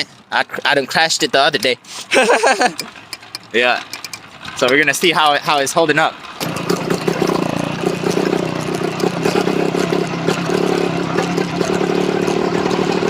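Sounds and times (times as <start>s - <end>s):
two-stroke engine running: 0.1s - 13.0s.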